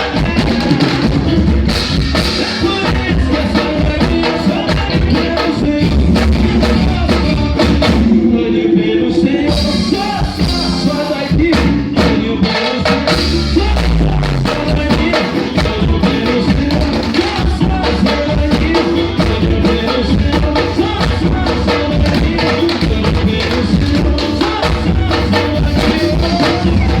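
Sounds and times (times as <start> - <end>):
drum kit and hand percussion: 0.0 - 8.4, 9.4 - 27.0
live band playing upbeat groove: 0.0 - 8.6, 9.3 - 27.0.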